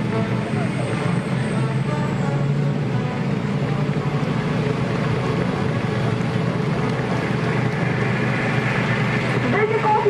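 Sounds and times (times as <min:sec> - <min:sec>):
tank diesel engine driving past: 0:00.0 - 0:10.0.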